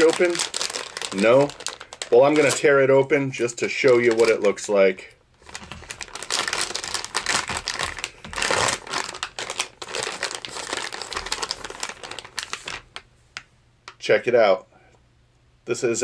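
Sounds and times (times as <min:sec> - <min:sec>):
plastic package crinkling: 0:00.0 - 0:14.0.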